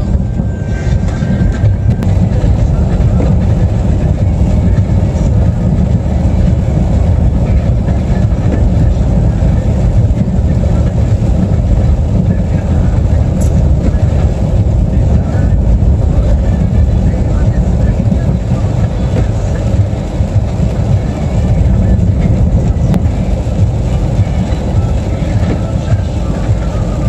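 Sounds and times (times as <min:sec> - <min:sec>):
car driving on wet road: 0:00.0 - 0:27.0.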